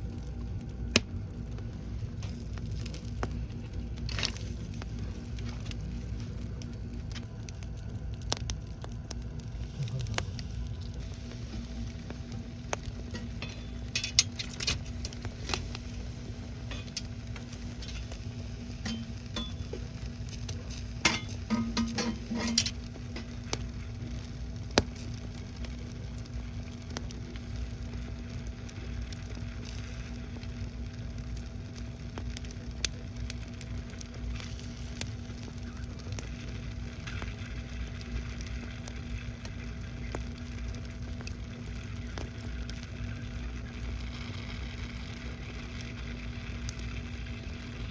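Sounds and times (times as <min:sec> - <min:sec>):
fire crackles and clicks: 0:00.0 - 0:47.9
shells sizzling over fire: 0:00.0 - 0:47.9.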